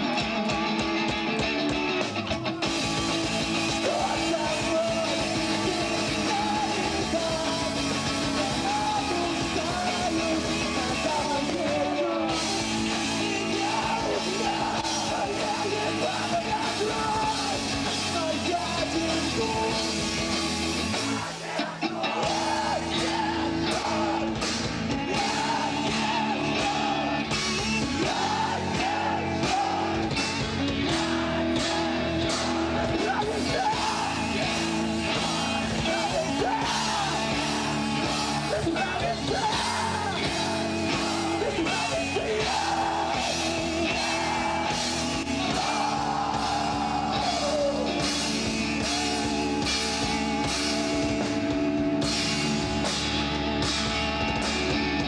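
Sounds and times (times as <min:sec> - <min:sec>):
drums: 0:00.0 - 0:55.0
electric guitars: 0:00.0 - 0:55.0
rock band playing: 0:00.0 - 0:55.0
person singing and yelling: 0:02.6 - 0:20.2, 0:20.9 - 0:50.6.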